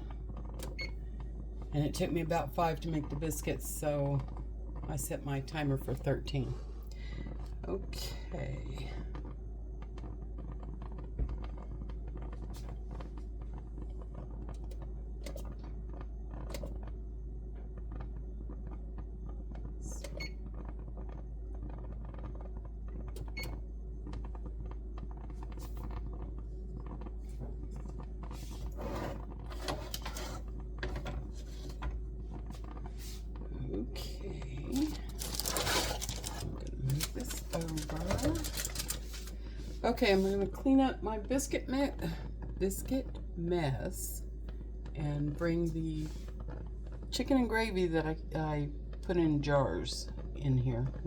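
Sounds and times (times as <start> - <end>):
low room hum: 0.0 - 51.0.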